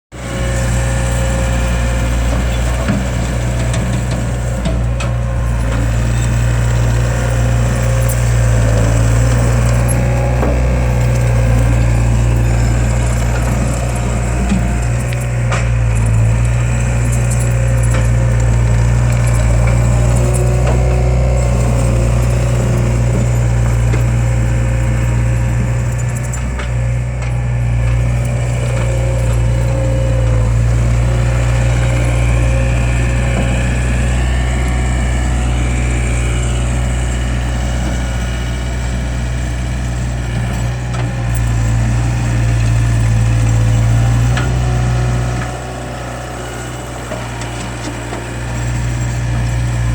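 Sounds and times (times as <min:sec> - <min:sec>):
loader engine running: 0:00.1 - 0:49.9.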